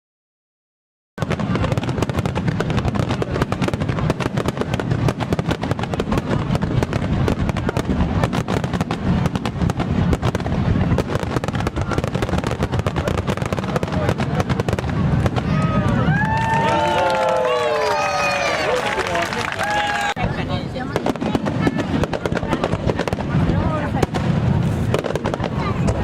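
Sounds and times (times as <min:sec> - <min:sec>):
fireworks crackling pops: 0:01.2 - 0:18.4, 0:19.6 - 0:26.0.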